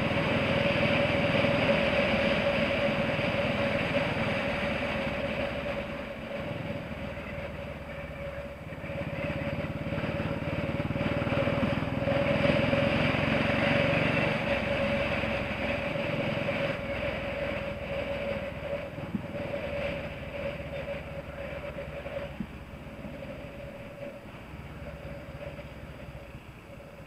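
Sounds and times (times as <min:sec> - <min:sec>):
motorcycle engine running: 0:00.0 - 0:27.0
tyres on wet tarmac: 0:00.0 - 0:27.0.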